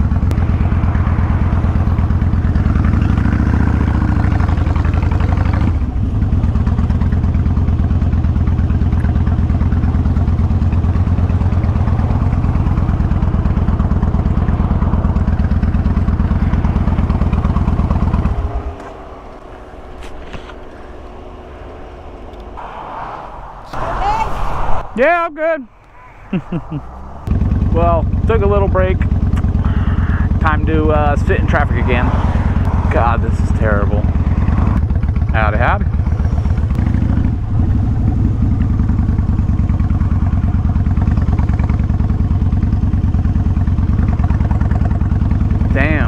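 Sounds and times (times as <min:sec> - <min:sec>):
motorcycle engine running: 0:00.0 - 0:22.6, 0:26.3 - 0:46.0.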